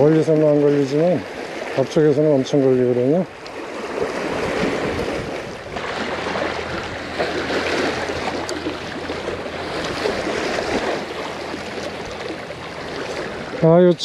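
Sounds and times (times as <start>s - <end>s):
small waves lapping over rocks: 0.0s - 14.0s.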